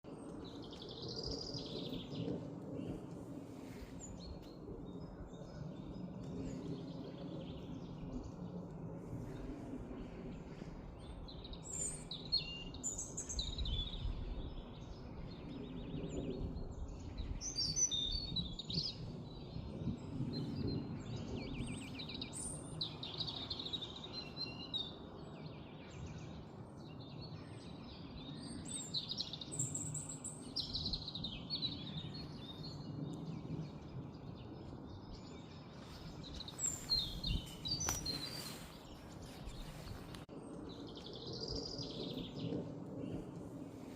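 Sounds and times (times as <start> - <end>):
birds singing and chirping: 0.1 - 8.6, 9.3 - 43.9.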